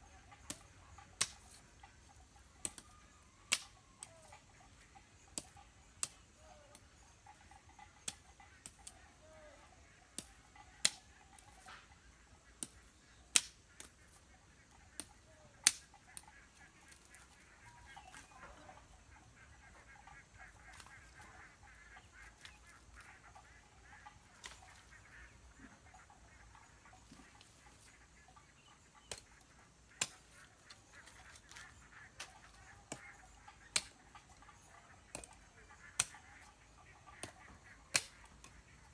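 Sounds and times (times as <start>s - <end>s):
faint poultry calls: 0.0s - 38.9s.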